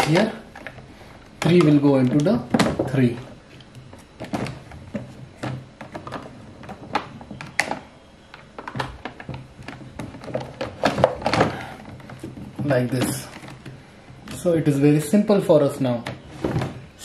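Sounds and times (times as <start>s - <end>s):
hard plastic parts clicking: 0.0s - 14.7s.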